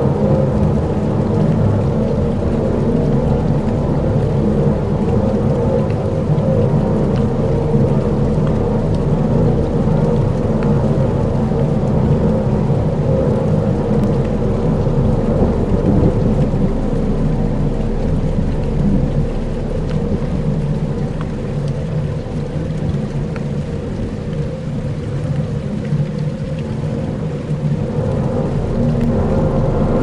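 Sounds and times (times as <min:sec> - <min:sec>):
dense low rumble: 0:00.0 - 0:30.0
faint held drone: 0:00.0 - 0:30.0.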